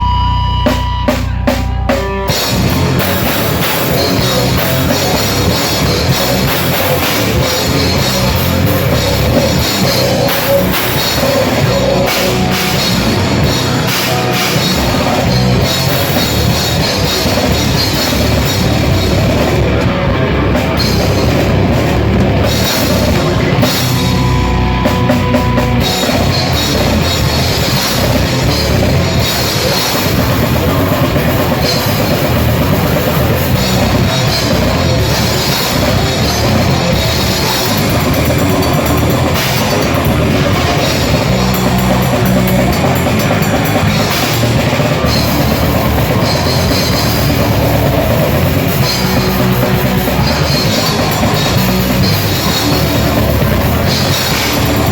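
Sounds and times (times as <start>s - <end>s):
grindcore band playing live: 0.0s - 54.9s.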